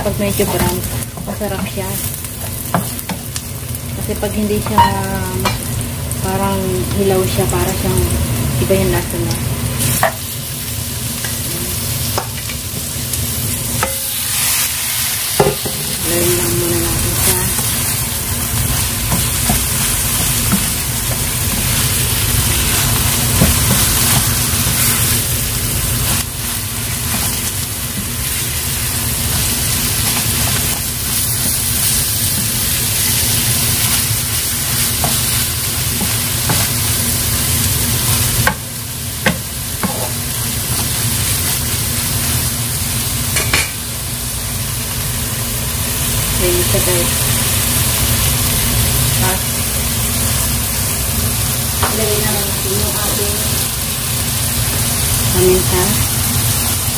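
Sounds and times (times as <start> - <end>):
meat sizzling in a frying pan: 0.0 - 56.9.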